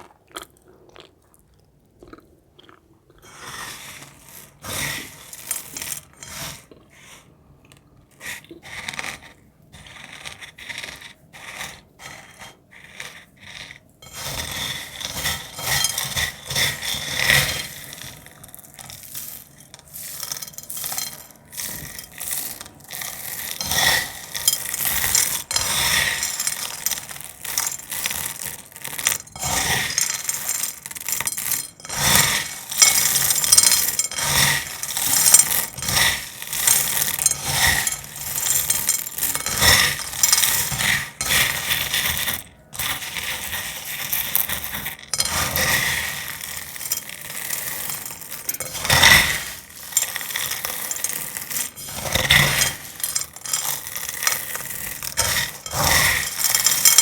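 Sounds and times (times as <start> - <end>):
dried cornstarch crackling: 3.8 - 6.8, 8.3 - 57.0.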